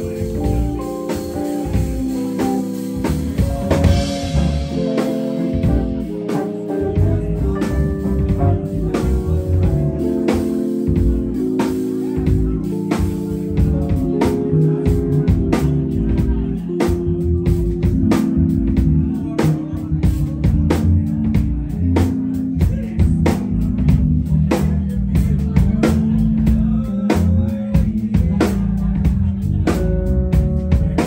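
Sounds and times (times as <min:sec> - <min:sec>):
live band playing instrumental: 0:00.0 - 0:31.0
steady drum beat: 0:00.0 - 0:31.0.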